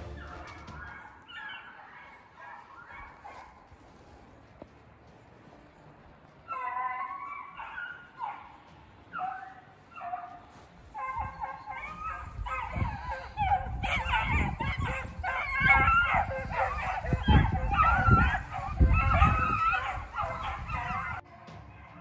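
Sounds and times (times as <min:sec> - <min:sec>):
hounds baying: 0:00.0 - 0:04.2, 0:05.4 - 0:22.0.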